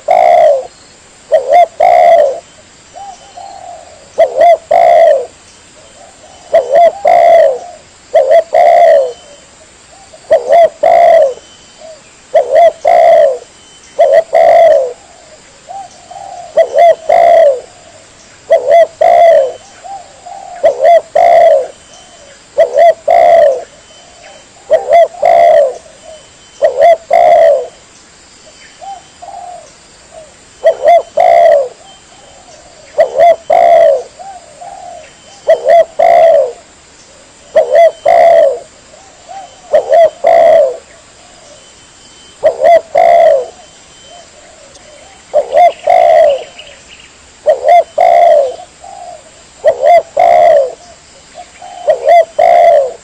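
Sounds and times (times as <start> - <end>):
dove cooing: 0.0 - 27.8, 28.8 - 46.8, 47.4 - 53.0.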